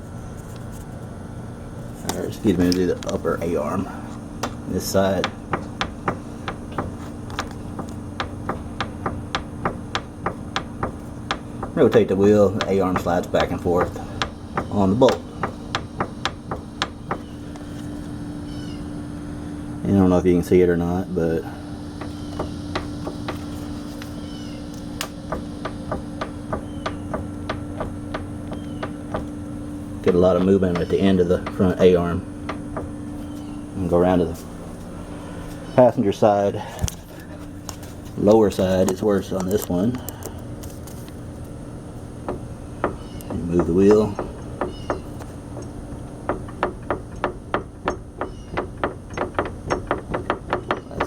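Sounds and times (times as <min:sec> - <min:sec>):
steady low hum: 0:00.0 - 0:51.0
suspension bushings clicking and knocking: 0:02.0 - 0:19.2, 0:19.9 - 0:35.1, 0:36.7 - 0:51.0.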